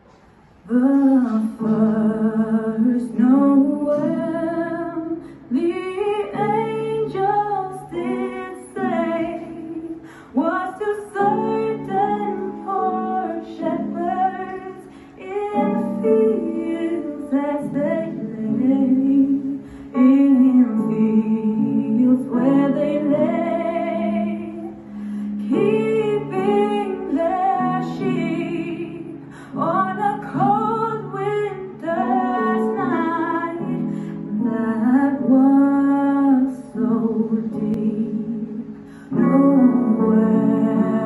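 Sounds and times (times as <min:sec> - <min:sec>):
woman singing: 0:00.6 - 0:41.0.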